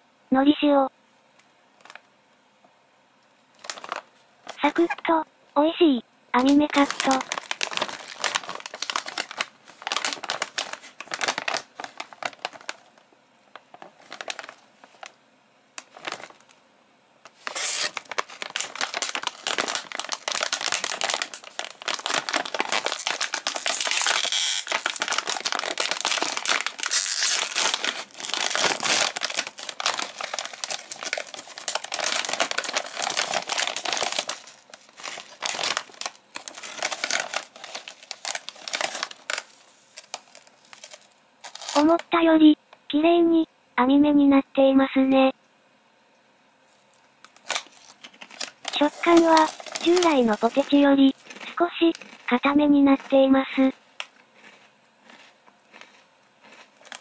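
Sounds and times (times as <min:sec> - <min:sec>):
chip bag crinkling: 0:01.8 - 0:02.0, 0:03.5 - 0:05.0, 0:06.4 - 0:15.2, 0:15.8 - 0:16.6, 0:17.3 - 0:42.1, 0:46.7 - 0:57.0.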